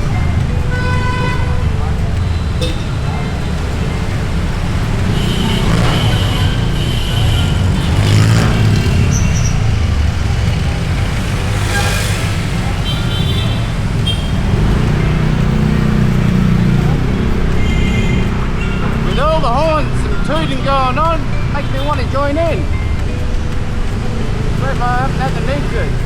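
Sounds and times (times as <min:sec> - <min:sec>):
vehicle horn toots: 0:00.0 - 0:09.9, 0:11.4 - 0:22.6
motorbike engine and road noise: 0:00.0 - 0:26.0.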